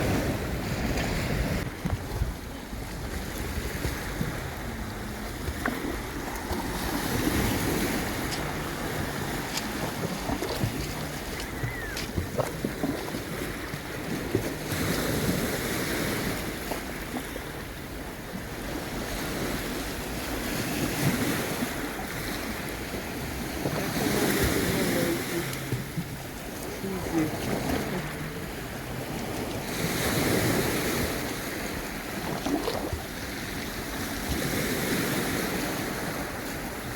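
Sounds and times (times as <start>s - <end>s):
sea waves washing onto shore: 0.0s - 36.9s
wind buffeting microphone: 0.0s - 36.9s.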